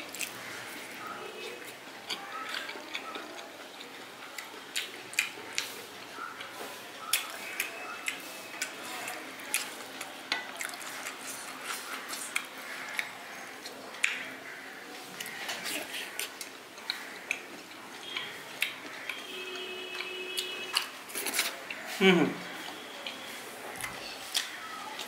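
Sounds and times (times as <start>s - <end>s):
person chewing food: 0.0s - 22.0s, 22.6s - 25.0s.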